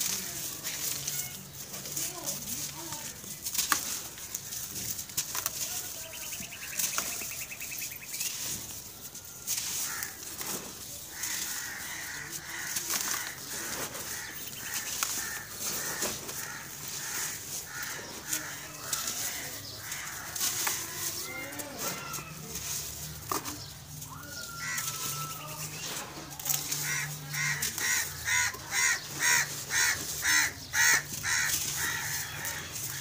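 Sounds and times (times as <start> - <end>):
bird calling: 0.0 - 33.0
crumbs trickling down: 0.0 - 33.0
lumps crushed and crumbled by hand: 0.0 - 33.0.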